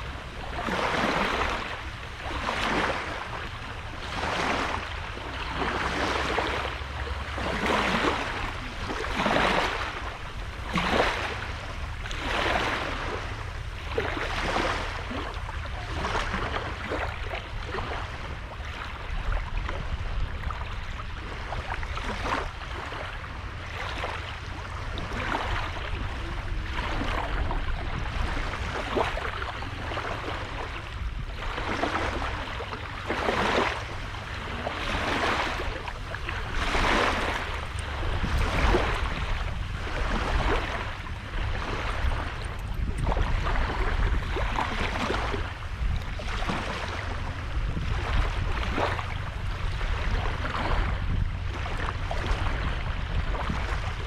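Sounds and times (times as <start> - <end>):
small waves washing on shore: 0.0 - 54.0
steady low rumble: 0.0 - 54.0.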